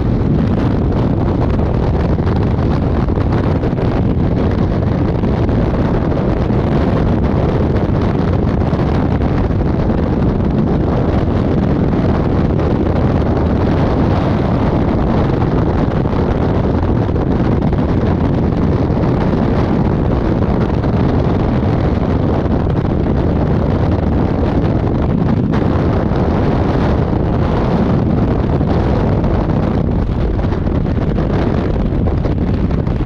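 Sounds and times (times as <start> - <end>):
wind blasting microphone: 0.0 - 33.0.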